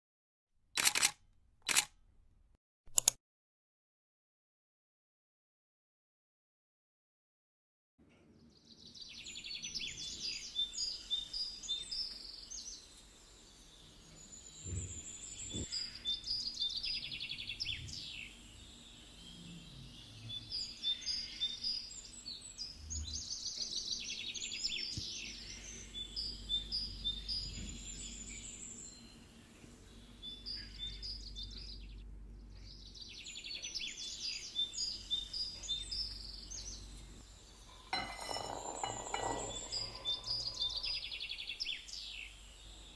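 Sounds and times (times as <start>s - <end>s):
birds chirping and trilling: 8.4s - 42.9s.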